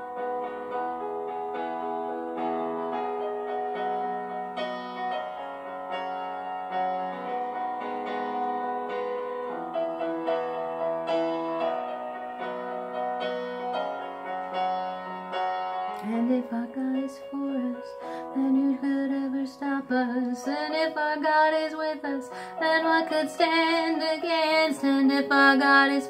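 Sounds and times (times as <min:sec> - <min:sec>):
instrumental piano music: 0:00.0 - 0:26.0.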